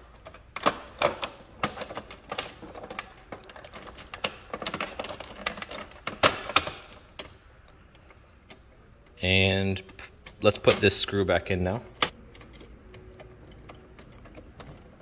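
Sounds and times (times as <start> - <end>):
plastic clicks and rattles: 0.1 - 9.2, 12.0 - 15.0.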